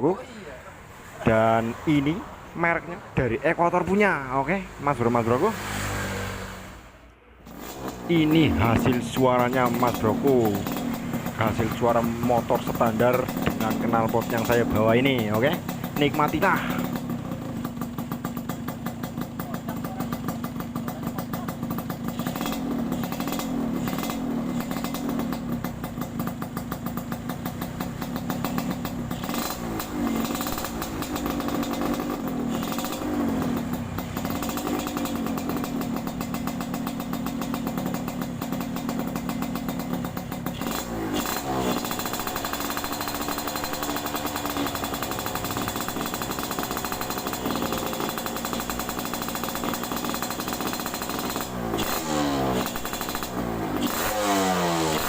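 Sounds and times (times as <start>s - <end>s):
two-stroke motorcycle engine revving: 3.5s - 55.0s.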